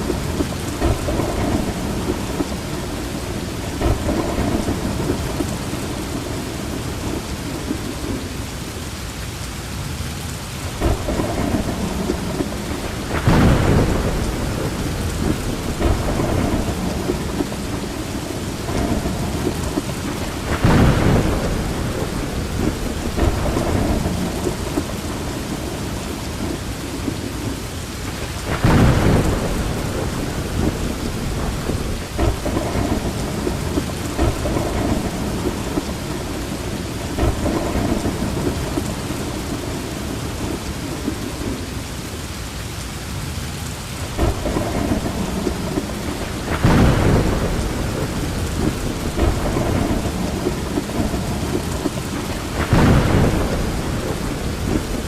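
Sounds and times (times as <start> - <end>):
heavy rain: 0.0 - 55.0
thunder rumbles and claps: 0.0 - 55.0.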